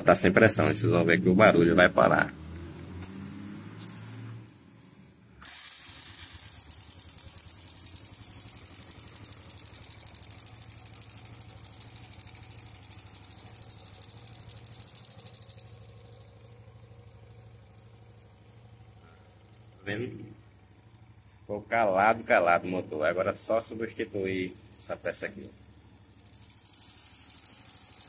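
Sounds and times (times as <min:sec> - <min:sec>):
motorcycle engine starting and idling: 0:00.0 - 0:28.0.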